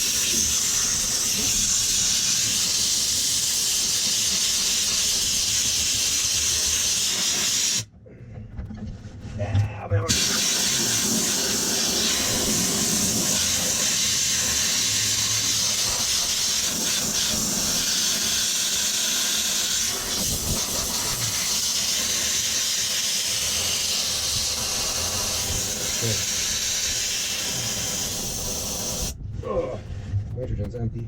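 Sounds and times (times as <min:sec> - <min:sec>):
compressed gas hissing from nozzle: 0:00.0 - 0:07.9, 0:10.1 - 0:29.2.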